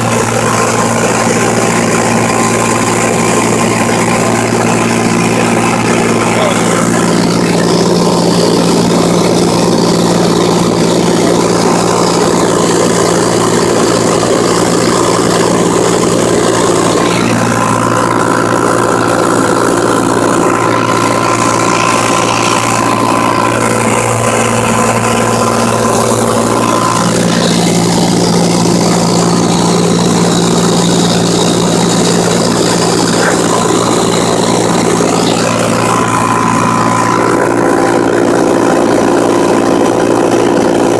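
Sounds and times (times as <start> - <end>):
aircraft engine drone in cabin: 0.0 - 40.9.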